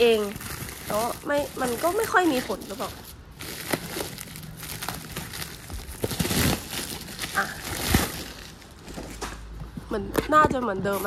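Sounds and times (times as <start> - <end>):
bubble wrap rustling and crinkling: 0.0 - 9.5.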